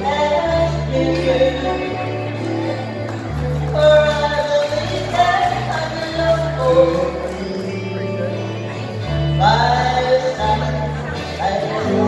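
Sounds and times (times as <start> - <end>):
bass guitar line: 0.0 - 12.0
guitars playing: 0.0 - 12.0.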